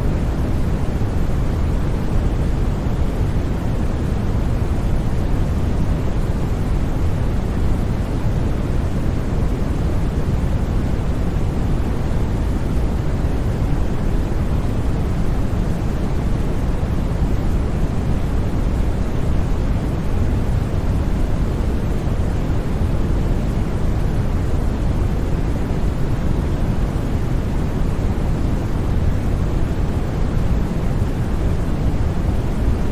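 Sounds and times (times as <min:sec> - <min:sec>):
white noise: 0:00.0 - 0:32.9.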